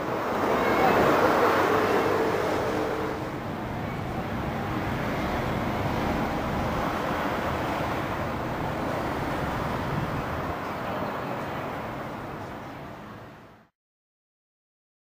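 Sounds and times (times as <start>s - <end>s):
road traffic: 0.0s - 13.7s.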